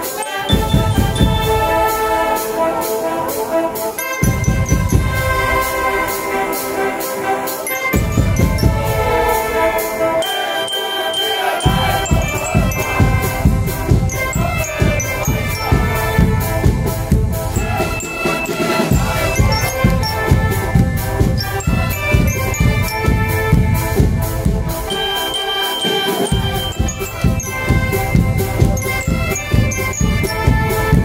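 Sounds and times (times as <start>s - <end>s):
bell lyres ringing: 0.0s - 31.0s
shawm chords: 0.0s - 31.0s
steady drumbeat: 0.0s - 31.0s.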